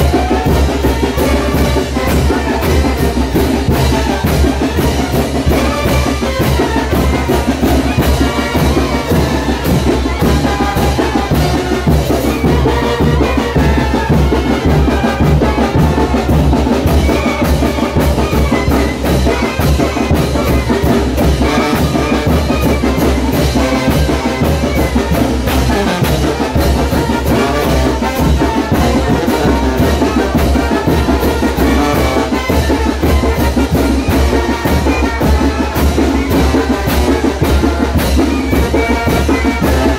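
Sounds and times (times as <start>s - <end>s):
brass band horns: 0.0s - 39.9s.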